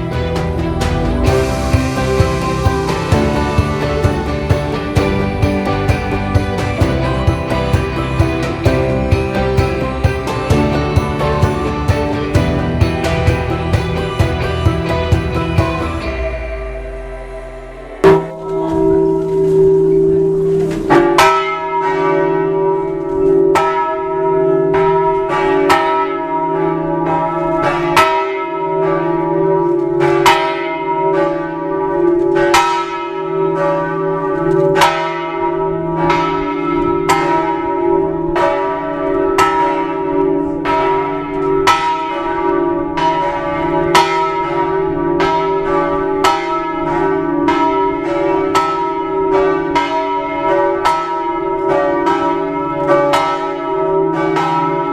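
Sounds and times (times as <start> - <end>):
low hum of bells: 0.0 - 20.5, 21.1 - 54.9
church bells ringing: 0.0 - 54.9.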